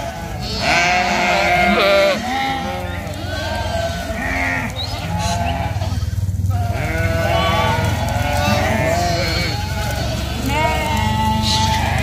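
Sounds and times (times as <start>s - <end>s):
goats bleating: 0.0s - 12.0s
steady low rumble: 0.1s - 12.0s.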